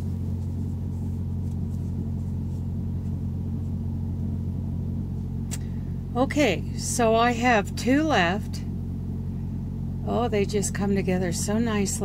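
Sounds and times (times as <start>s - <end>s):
steady low layered hum: 0.0s - 12.0s.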